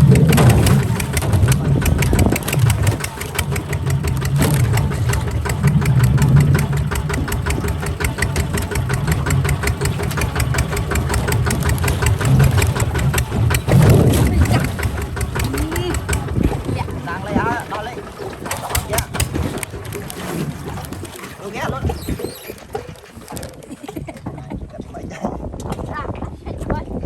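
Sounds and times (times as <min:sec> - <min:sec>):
diesel walking tractor engine: 0:00.0 - 0:23.3.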